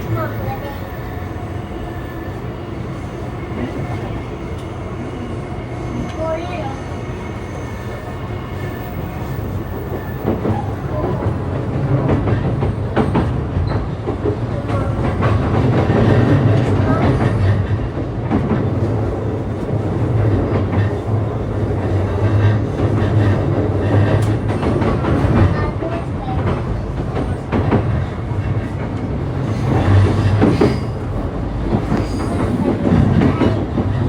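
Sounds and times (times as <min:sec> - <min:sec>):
train interior hum: 0:00.0 - 0:34.0
wheels rumbling on rail: 0:00.0 - 0:34.0.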